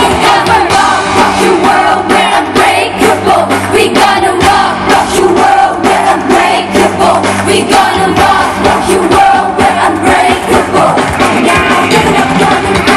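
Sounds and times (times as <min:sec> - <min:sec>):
loud pop music: 0:00.0 - 0:12.9
woman singing: 0:00.0 - 0:12.9.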